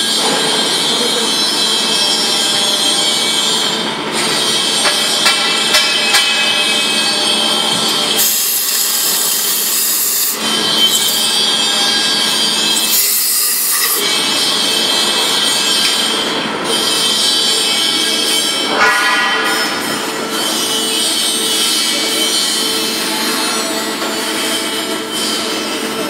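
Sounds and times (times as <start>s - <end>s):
cnc lathe running: 0.0s - 26.0s.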